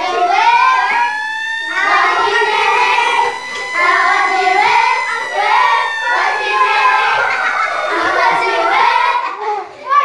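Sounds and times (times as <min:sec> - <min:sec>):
children singing: 0:00.0 - 0:09.2
thin steady high tone: 0:00.0 - 0:09.2.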